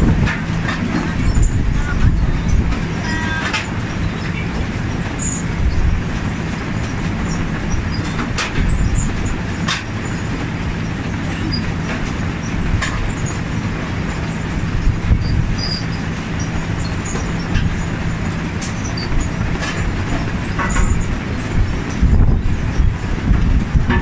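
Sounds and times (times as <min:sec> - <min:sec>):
harvester mechanical rumble: 0:00.0 - 0:24.0.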